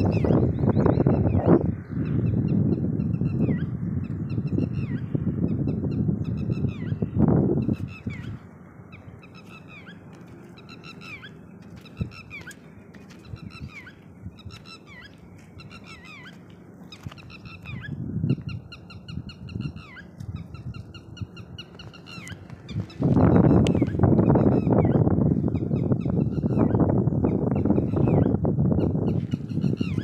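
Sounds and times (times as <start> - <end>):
lapwing alarm calls: 0.0 - 30.0.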